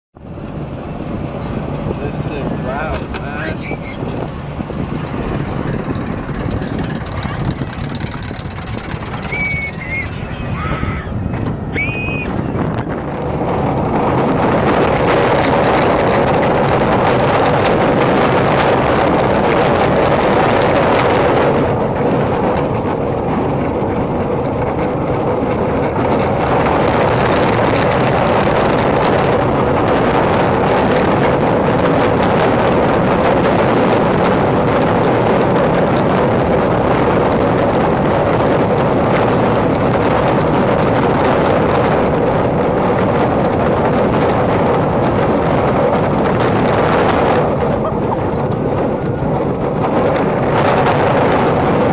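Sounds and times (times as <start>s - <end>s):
roller coaster rumbling on track: 0.2s - 51.9s
wind rushing over microphone: 0.2s - 51.9s.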